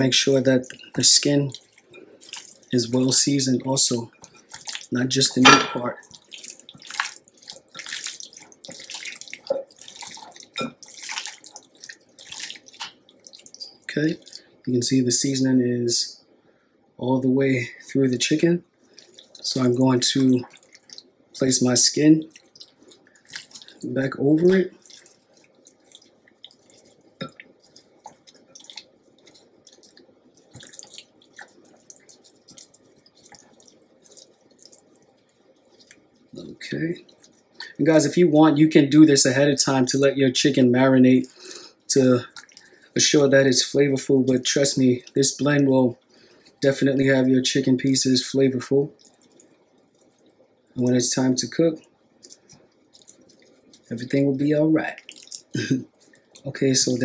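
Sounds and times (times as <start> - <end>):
wet squelching of raw chicken: 0.0 - 14.7, 18.0 - 38.1, 41.1 - 45.3, 48.3 - 50.9, 51.8 - 56.6.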